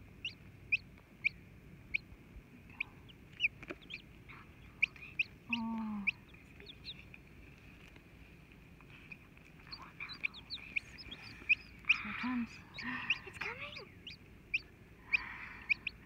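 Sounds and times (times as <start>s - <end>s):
chick peeping: 0.1s - 8.0s, 8.9s - 16.0s
hen clucking: 0.2s - 7.2s, 8.9s - 16.0s.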